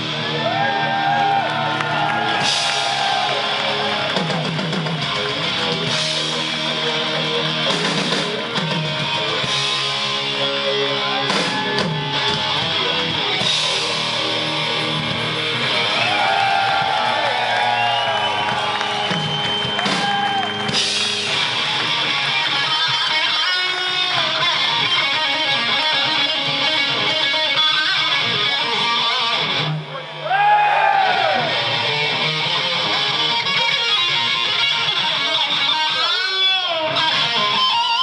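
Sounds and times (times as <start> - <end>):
live rock band playing: 0.0 - 30.4, 31.1 - 38.0
electric guitar lead bends: 3.3 - 16.9, 17.8 - 30.4, 31.1 - 38.0.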